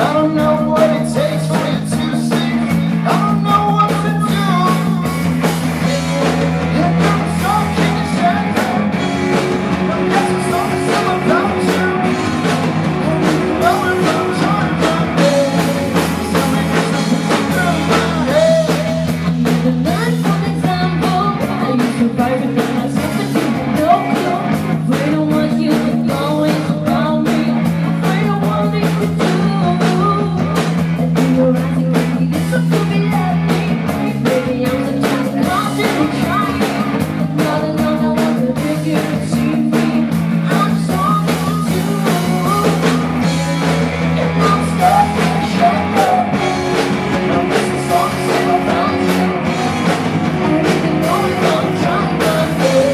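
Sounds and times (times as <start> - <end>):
person singing: 0.0 - 52.9
rock band playing live: 0.0 - 52.9.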